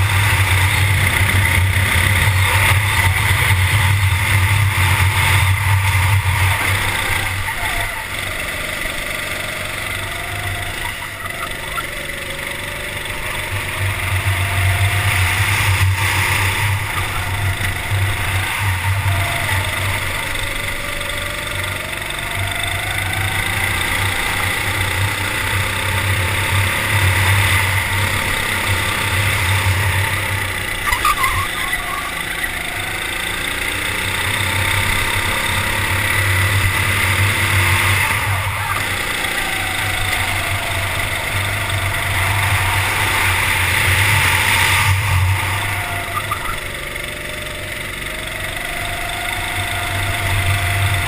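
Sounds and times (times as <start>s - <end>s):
racing kart engine: 0.0s - 51.0s.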